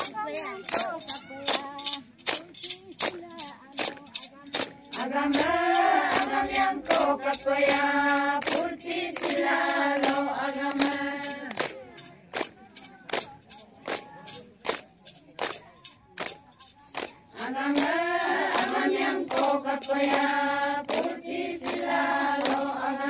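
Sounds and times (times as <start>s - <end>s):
women singing a chant: 0.0s - 14.4s, 16.3s - 23.0s
hands clapping a steady beat: 0.0s - 23.0s.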